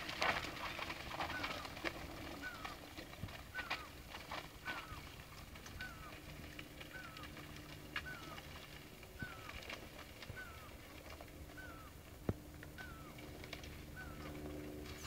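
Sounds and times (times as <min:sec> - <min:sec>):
faint low hum: 0:00.3 - 0:15.0.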